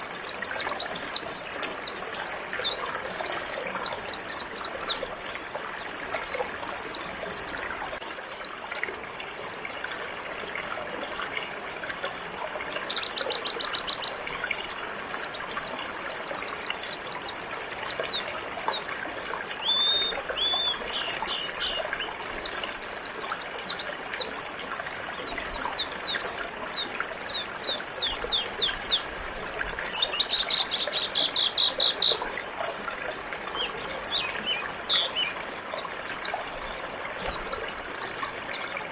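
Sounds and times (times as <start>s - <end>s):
birds twittering and trilling: 0.0s - 10.0s, 12.4s - 38.9s
flowing river water: 0.0s - 38.9s.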